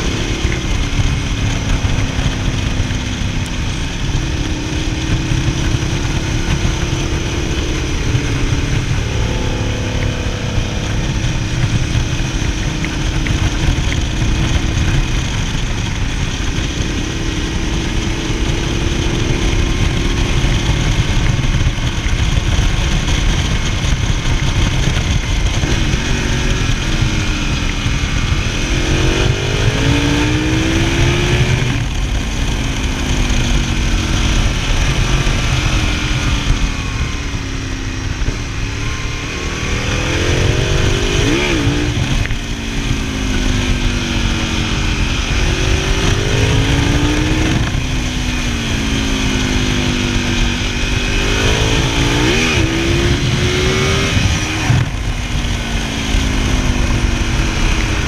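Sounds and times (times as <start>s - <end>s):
heavy wind: 0.0s - 58.0s
motorcycle engine running: 0.0s - 58.0s
road rumble: 0.0s - 58.0s.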